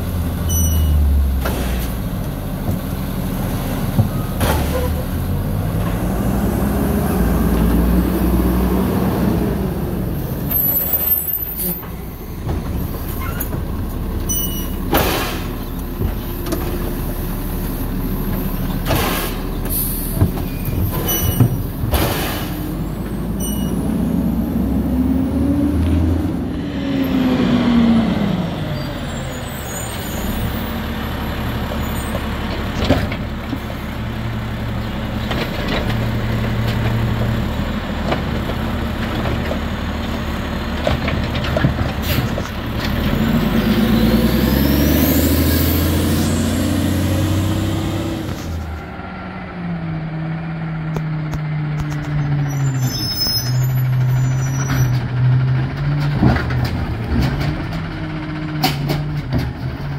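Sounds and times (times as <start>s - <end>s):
truck engine revving: 3.0s - 11.7s, 14.8s - 32.7s, 34.3s - 59.9s.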